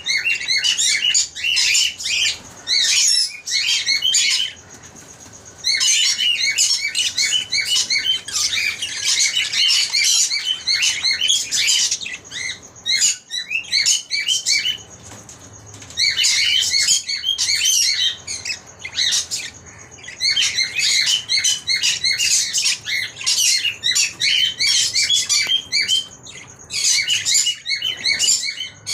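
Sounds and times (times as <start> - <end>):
birds chirping shrilly: 0.0 - 28.9.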